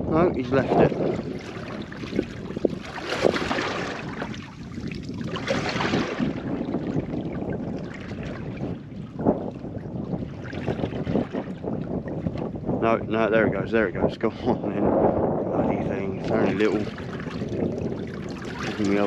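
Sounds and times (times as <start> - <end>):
water lapping against boat hull: 0.0 - 19.0
wind on microphone: 0.0 - 19.0.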